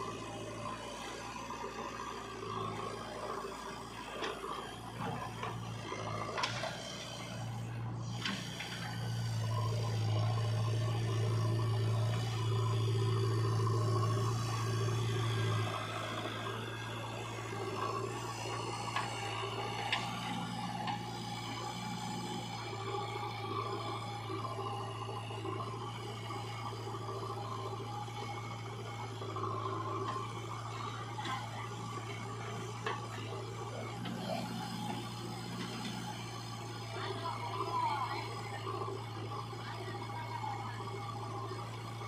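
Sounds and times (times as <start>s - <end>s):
diesel engines running: 0.0s - 42.0s.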